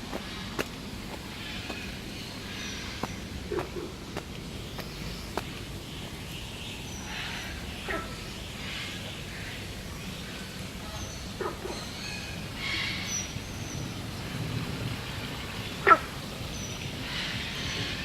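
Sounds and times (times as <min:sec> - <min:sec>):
birds squawking and screeching: 0:00.1 - 0:18.0.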